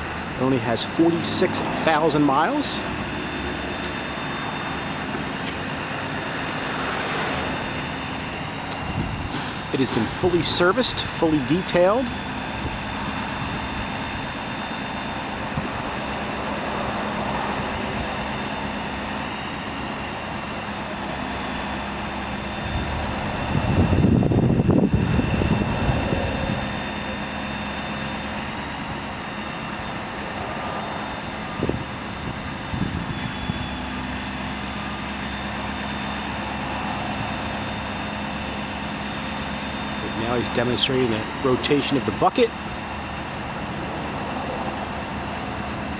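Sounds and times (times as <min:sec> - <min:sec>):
diesel engine droning: 0:00.0 - 0:45.9
hydraulic whine: 0:00.0 - 0:45.9.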